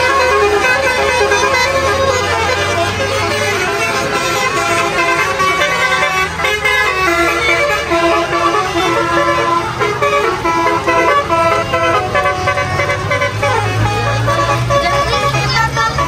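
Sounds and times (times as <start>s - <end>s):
low bus engine hum: 0.0s - 16.0s
musical bus horn playing a tune: 0.0s - 16.0s.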